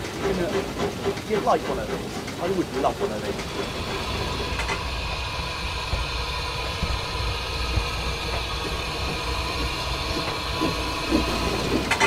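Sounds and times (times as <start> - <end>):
steam locomotive running slowly: 0.0 - 12.0.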